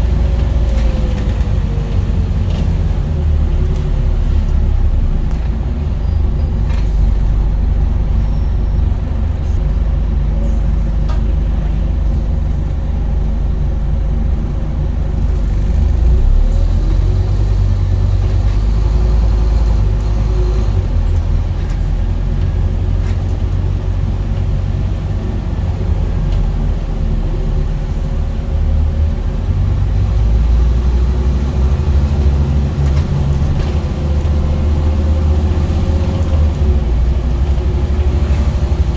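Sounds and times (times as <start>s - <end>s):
light rattles and clicks: 0.0s - 26.8s, 31.8s - 38.9s
bus diesel engine rumbling: 0.0s - 38.9s.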